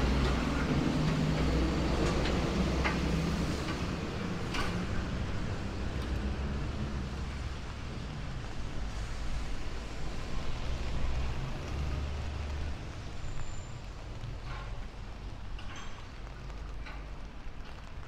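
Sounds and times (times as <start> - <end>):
motor traffic: 0.0 - 15.3.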